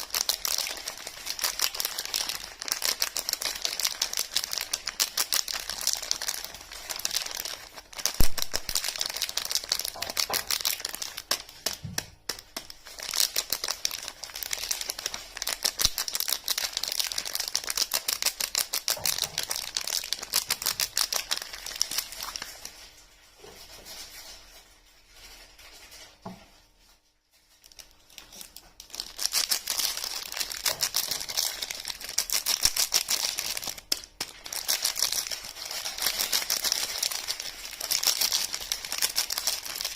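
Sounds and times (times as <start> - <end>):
wrapping crinkling and tearing: 0.0 - 39.9.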